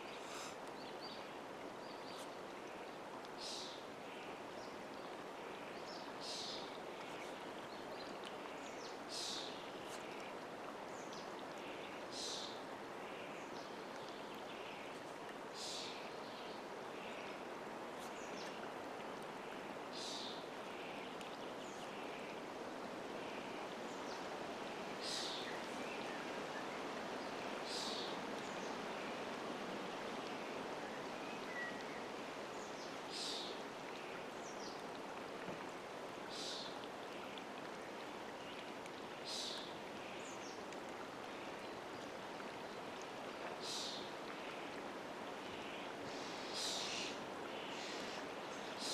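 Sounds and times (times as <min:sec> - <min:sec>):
water lapping at shore: 0:00.0 - 0:48.9.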